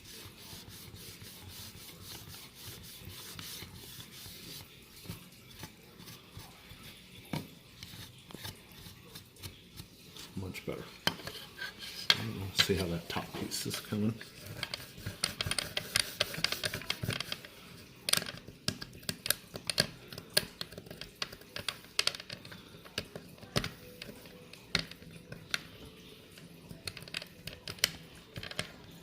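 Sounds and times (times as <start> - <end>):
hard plastic being handled: 0.0 - 29.0.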